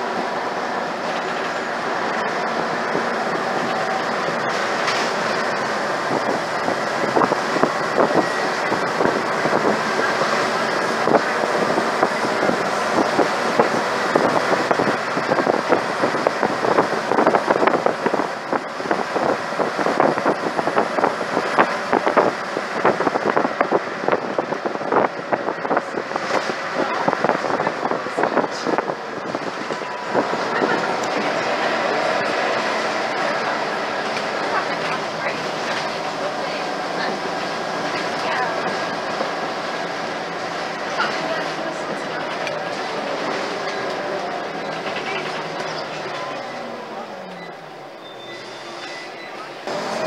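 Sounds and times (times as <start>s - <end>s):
bus engine and road drone: 0.0s - 50.0s.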